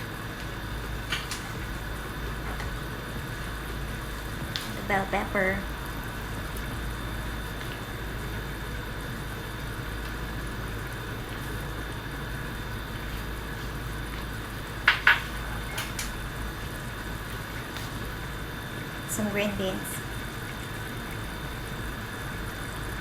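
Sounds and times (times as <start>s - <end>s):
pot simmering: 0.0s - 23.0s.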